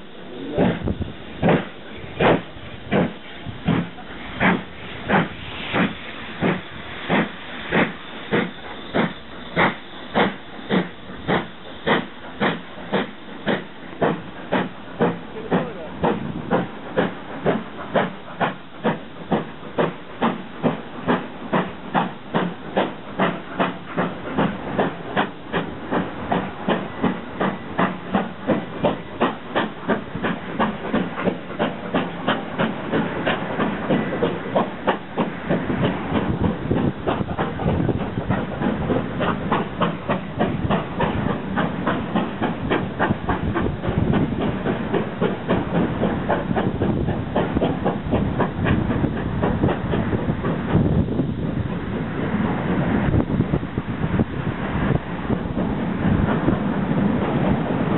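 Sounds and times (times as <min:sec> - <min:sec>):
steam hiss: 0:00.0 - 0:57.9
steam locomotive exhaust chuffing: 0:00.0 - 0:57.9.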